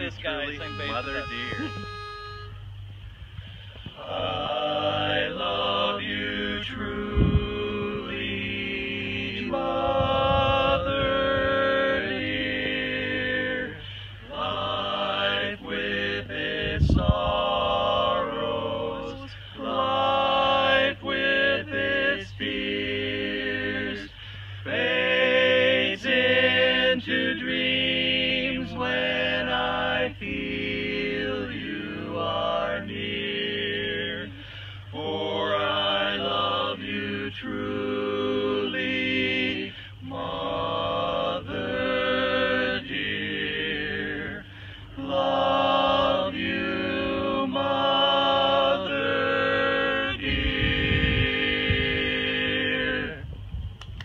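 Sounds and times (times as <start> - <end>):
men singing a cappella harmony: 3.9 - 53.3.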